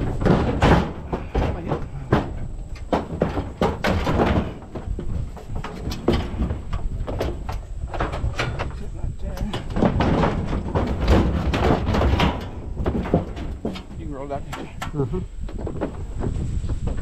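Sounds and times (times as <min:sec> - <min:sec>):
metal knocks clanks and scrapes: 0:00.0 - 0:17.0.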